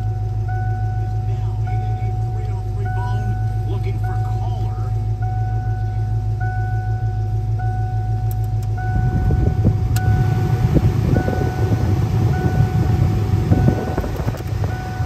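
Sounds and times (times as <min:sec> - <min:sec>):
car engine running: 0:00.0 - 0:15.0
electronic tone: 0:00.0 - 0:15.0.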